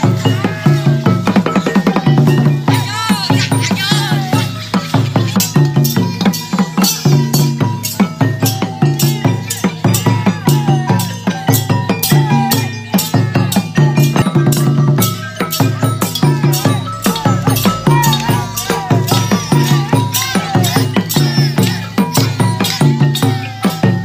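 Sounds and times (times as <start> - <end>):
barrel drum beat: 0.0 - 24.0
rattling percussion: 0.0 - 24.0
wavering melody line: 0.0 - 24.0.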